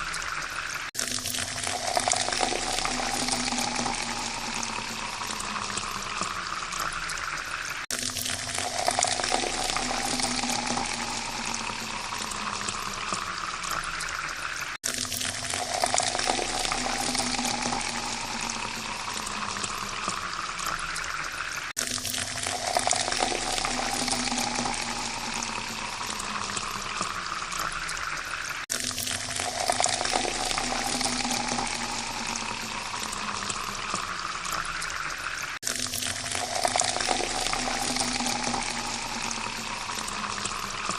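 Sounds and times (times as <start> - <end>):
water pouring into a glass: 0.0 - 40.9.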